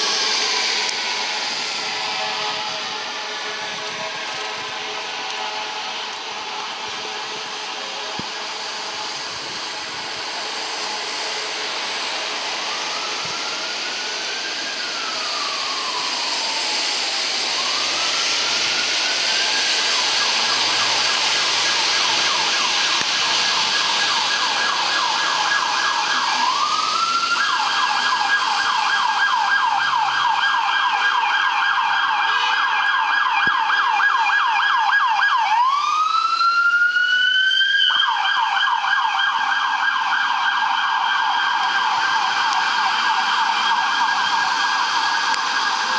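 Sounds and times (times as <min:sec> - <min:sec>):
fire truck siren wailing and yelping: 0:00.0 - 0:45.9.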